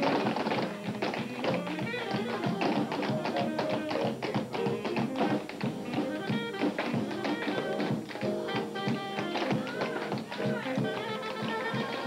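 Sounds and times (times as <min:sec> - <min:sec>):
live band music: 0:00.0 - 0:12.0
tap shoes on stage floor: 0:00.0 - 0:12.0.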